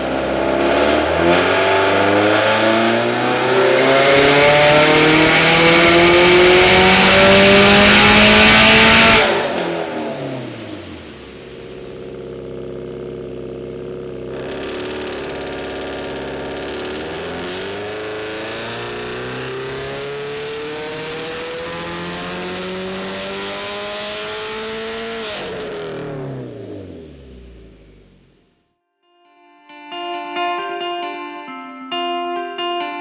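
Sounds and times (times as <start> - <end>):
car engine accelerating hard: 0.0 - 28.4.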